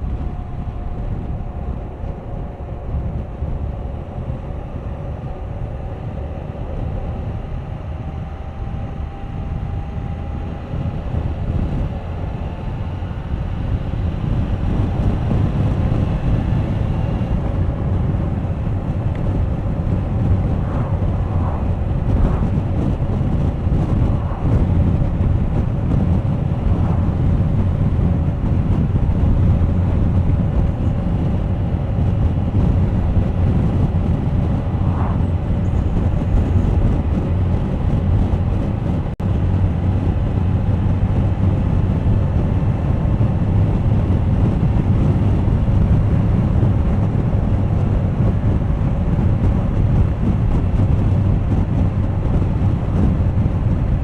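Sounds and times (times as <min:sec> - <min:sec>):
motorcycle engine cruising: 0:00.0 - 0:54.0
road noise: 0:00.0 - 0:54.0
wind buffeting microphone: 0:00.0 - 0:54.0.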